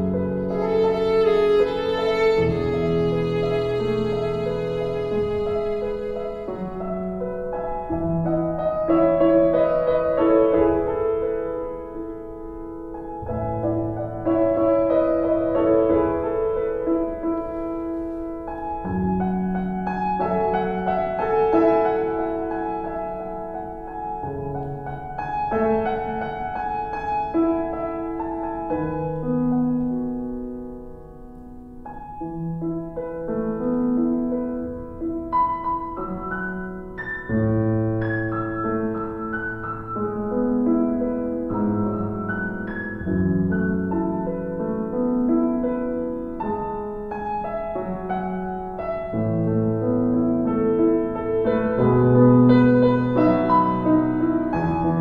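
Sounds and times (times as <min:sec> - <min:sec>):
slow piano music: 0:00.0 - 0:55.0.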